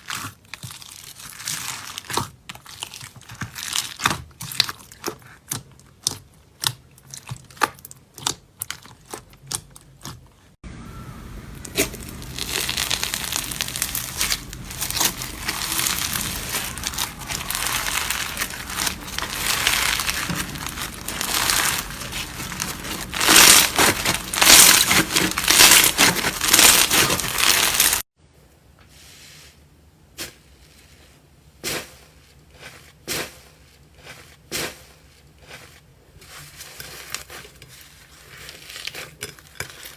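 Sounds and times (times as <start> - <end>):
slime crackling and crinkling: 0.0 - 10.6, 11.3 - 28.1, 31.6 - 39.9.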